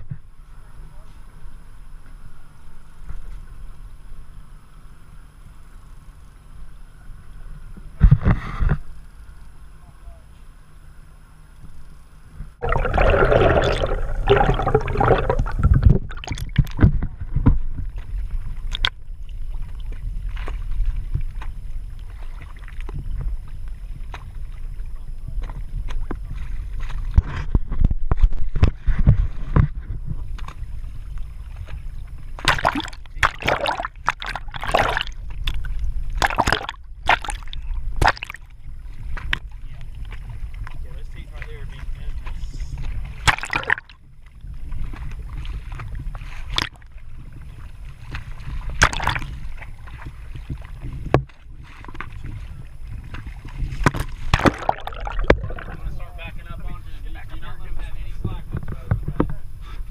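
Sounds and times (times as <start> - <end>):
boat engine low rumble: 0.0 - 59.9
water sloshing against hull: 0.0 - 59.9.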